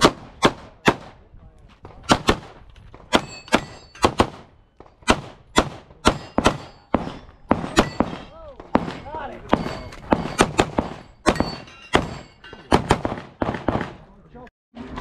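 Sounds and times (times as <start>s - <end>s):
pistol shots with echo: 0.0s - 1.2s, 1.8s - 14.1s.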